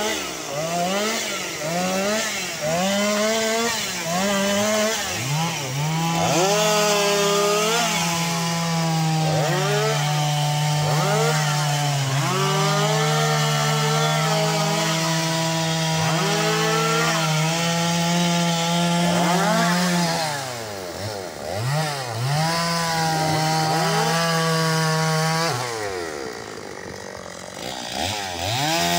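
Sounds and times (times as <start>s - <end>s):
chainsaw cutting logs: 0.0s - 28.9s.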